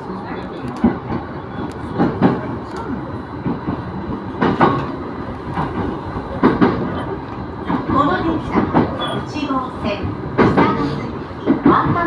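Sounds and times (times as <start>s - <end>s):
train running rumble: 0.0s - 12.0s
train wheels clicking on rail joints: 0.5s - 12.0s.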